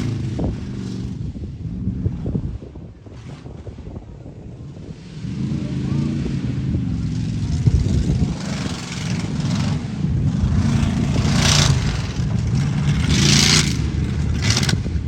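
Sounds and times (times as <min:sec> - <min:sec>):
truck engine revving: 0:00.0 - 0:02.6, 0:04.8 - 0:15.0.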